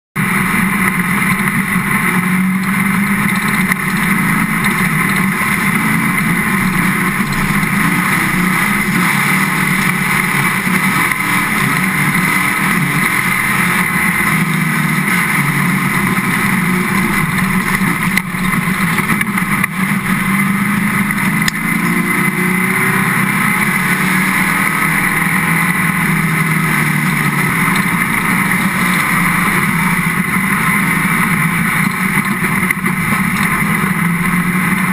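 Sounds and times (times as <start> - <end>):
race car engine running hard: 0.2 - 34.9.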